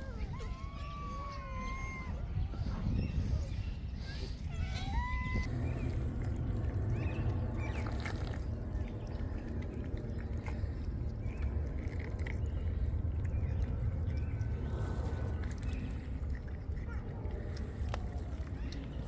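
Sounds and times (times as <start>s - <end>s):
cats chewing and lapping food: 0.0s - 19.0s.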